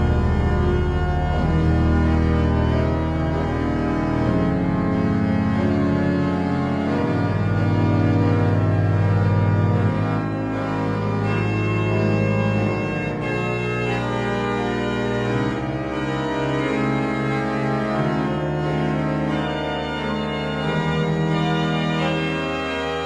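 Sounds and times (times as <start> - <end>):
sustained organ chords: 0.0 - 23.0.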